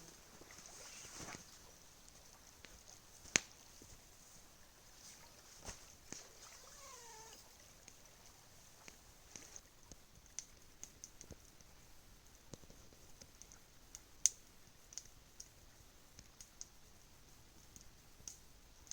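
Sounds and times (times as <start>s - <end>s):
campfire crackling and popping: 0.0s - 18.9s
steady high hiss: 0.0s - 18.9s.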